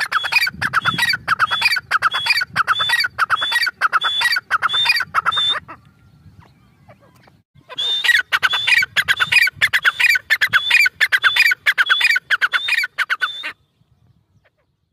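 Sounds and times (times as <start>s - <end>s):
francolin calling: 0.0s - 5.9s, 6.6s - 13.6s.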